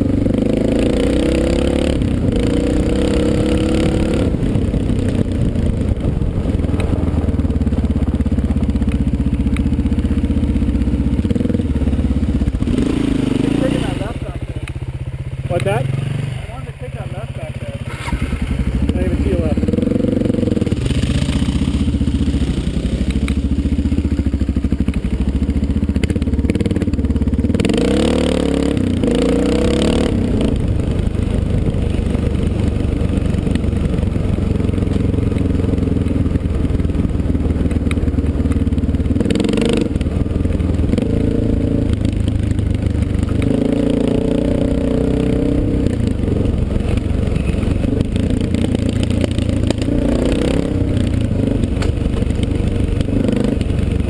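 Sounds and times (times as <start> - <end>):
dirt bike engine running: 0.0 - 54.0
clatter from rough gravel road: 3.9 - 54.0.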